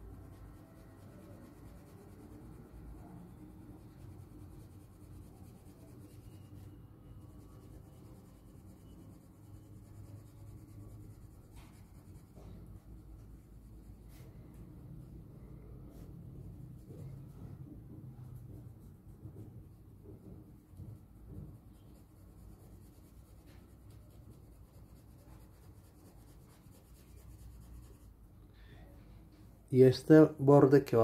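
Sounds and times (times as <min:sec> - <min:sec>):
pencil scratching on card: 0:00.0 - 0:15.0, 0:15.9 - 0:28.2.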